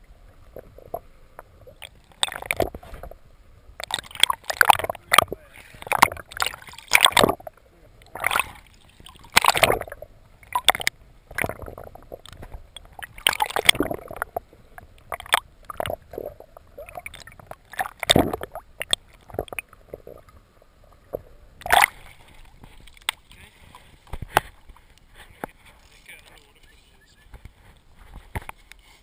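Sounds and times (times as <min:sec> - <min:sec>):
muffled water sloshing and gurgling: 0:00.0 - 0:25.9.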